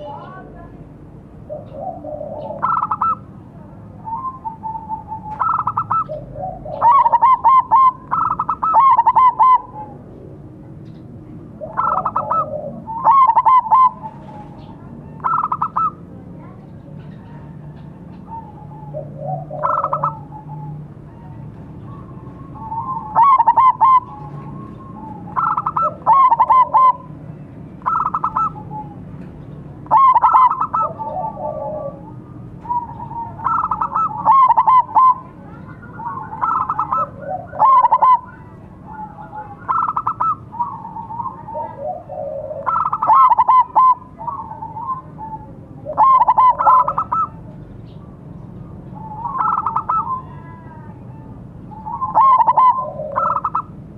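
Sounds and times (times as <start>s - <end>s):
doves cooing: 1.3s - 10.4s, 11.0s - 16.1s, 16.8s - 53.9s.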